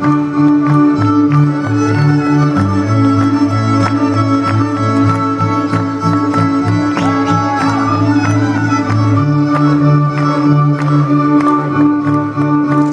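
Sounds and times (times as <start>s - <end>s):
folk music with fiddles: 0.0s - 12.9s.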